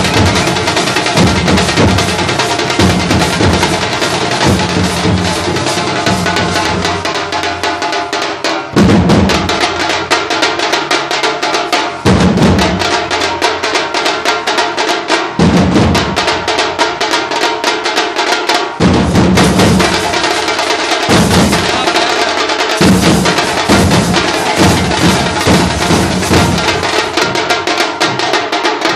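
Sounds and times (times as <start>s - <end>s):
barrel drums playing fast rhythm: 0.0s - 28.9s.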